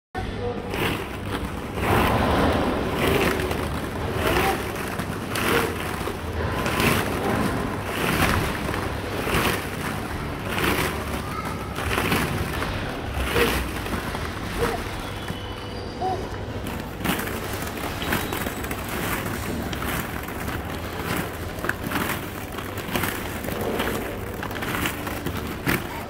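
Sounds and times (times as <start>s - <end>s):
plastic balls rustling and clattering: 0.2s - 26.0s.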